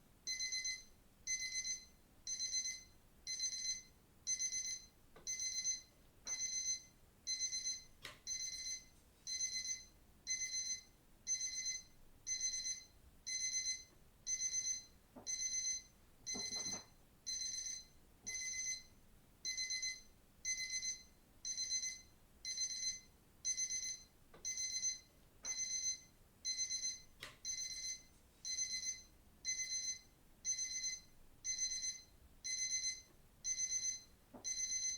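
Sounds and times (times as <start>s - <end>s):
digital watch alarm beeping: 0.3s - 18.9s, 19.5s - 34.9s.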